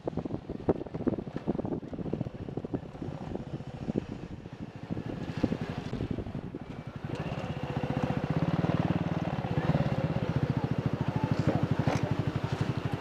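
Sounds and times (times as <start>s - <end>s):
motorcycle engine at low revs: 0.0s - 13.0s
wind noise on microphone: 0.0s - 13.0s.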